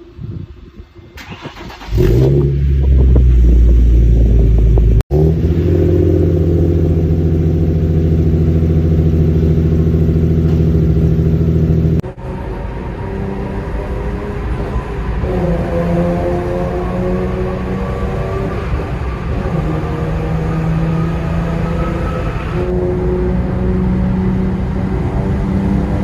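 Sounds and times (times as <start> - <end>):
car engine starting and idling: 0.6 - 26.0.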